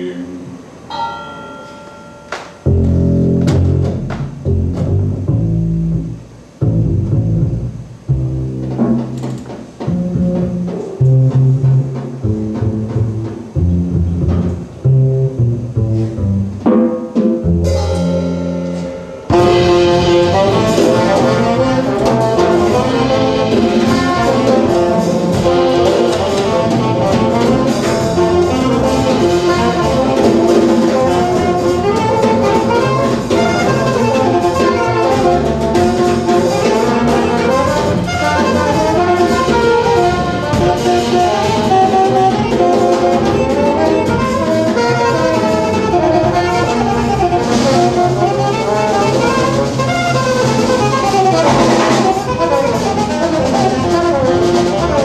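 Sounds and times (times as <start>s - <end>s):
jazz band playing: 0.0s - 55.0s
plucked double bass: 2.6s - 55.0s.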